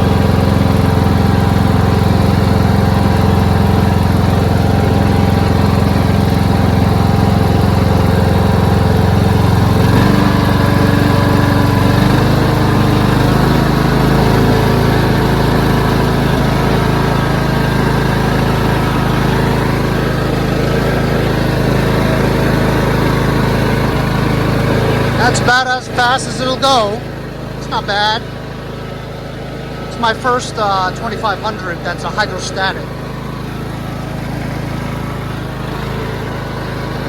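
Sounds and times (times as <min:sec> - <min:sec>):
lawn tractor engine running: 0:00.0 - 0:37.0.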